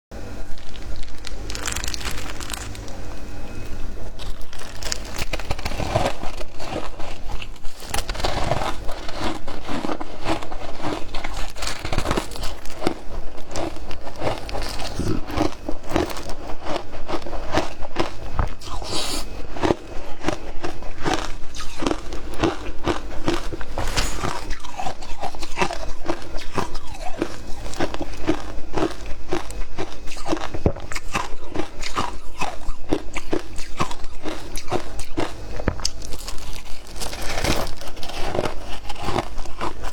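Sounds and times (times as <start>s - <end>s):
ice being bitten and chewed: 0.4s - 39.9s.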